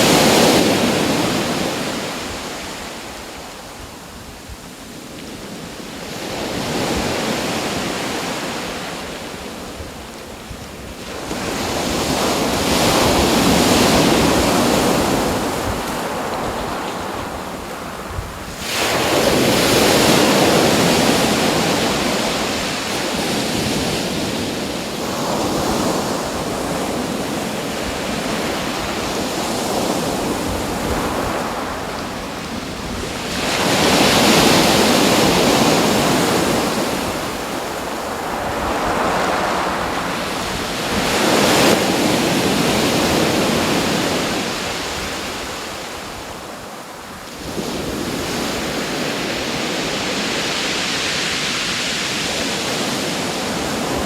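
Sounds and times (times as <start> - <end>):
wind: 0.0 - 54.0.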